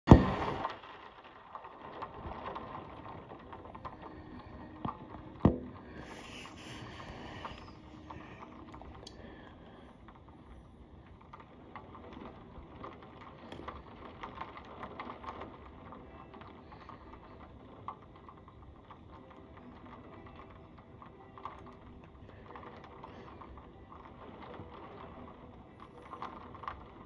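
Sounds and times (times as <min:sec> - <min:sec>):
raindrops tapping: 0:00.0 - 0:27.0
rain hissing: 0:00.1 - 0:27.0.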